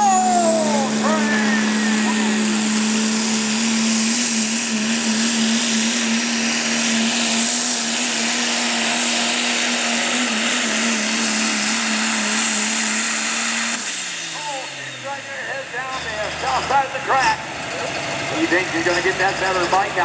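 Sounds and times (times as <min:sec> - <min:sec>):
truck engine at full throttle: 0:00.0 - 0:20.0.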